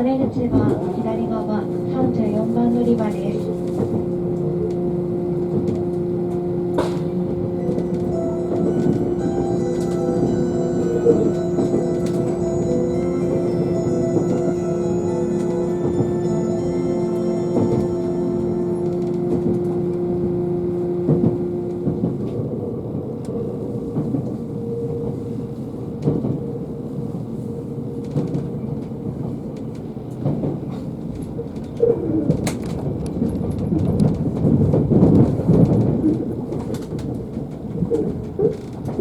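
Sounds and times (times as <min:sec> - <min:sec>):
railway rumble: 0:00.0 - 0:39.0.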